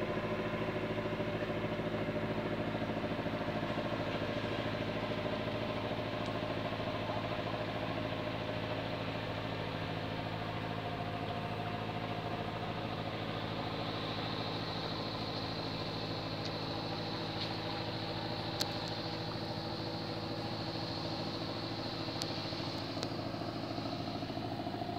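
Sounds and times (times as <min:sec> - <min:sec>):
boat engine running: 0:00.0 - 0:24.9.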